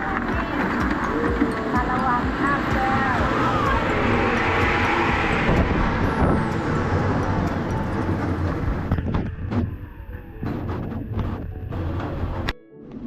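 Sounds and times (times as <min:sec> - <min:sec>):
small train rumbling: 0:00.0 - 0:12.6.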